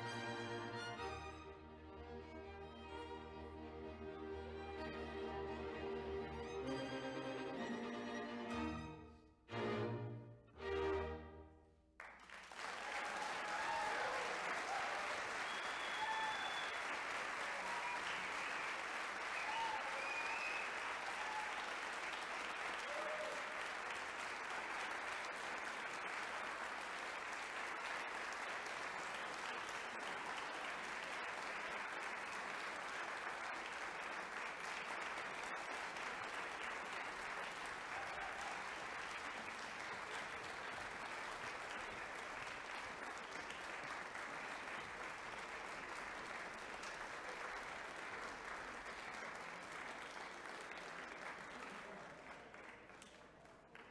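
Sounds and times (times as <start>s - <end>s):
audience applauding: 0.0s - 1.5s, 12.0s - 53.9s.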